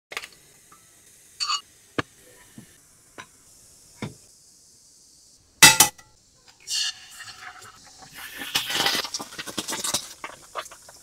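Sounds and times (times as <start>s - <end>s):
faint steady hiss: 0.1s - 11.0s.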